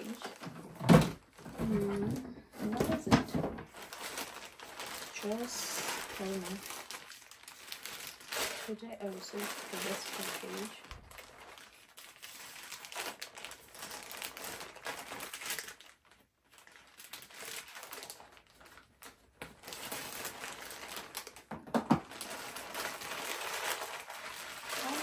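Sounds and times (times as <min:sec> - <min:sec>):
plastic mailer bag crinkling: 0:00.0 - 0:25.0.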